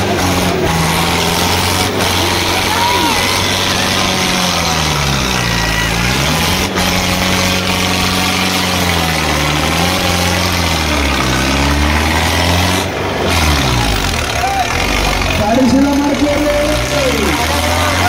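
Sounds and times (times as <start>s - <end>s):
diesel tractor engines lugging: 0.0s - 18.0s.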